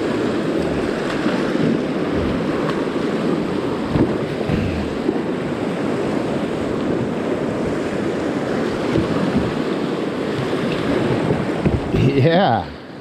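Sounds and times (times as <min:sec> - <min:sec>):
wind buffeting microphone: 0:00.0 - 0:12.5
whitewater rushing and splashing: 0:00.0 - 0:13.0.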